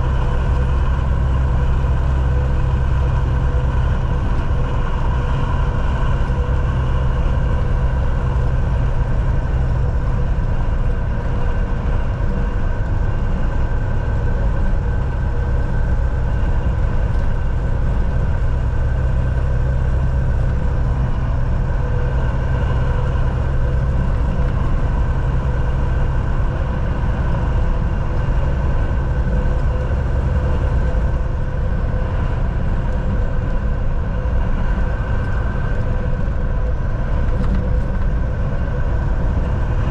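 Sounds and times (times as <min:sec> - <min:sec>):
constant hums: 0:00.0 - 0:39.9
road rumble: 0:00.0 - 0:39.9
truck engine drone: 0:00.0 - 0:39.9.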